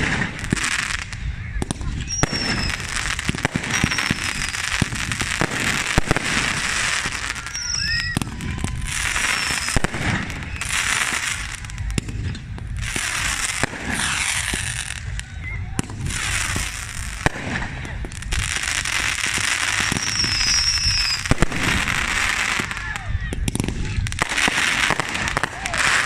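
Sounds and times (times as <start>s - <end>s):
firework bangs: 0.0s - 26.0s
firework crackling bursts: 0.0s - 26.0s
firework whistles: 0.0s - 26.0s.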